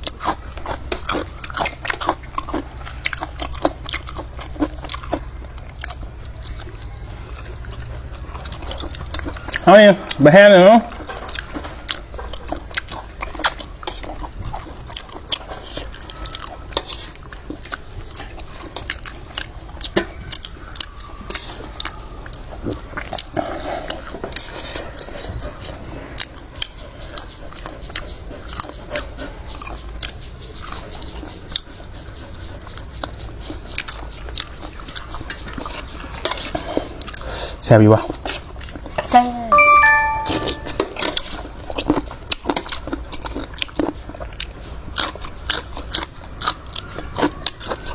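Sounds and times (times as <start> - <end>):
chewing and mouth smacks: 0.0 - 10.2, 10.9 - 39.1, 41.0 - 47.9.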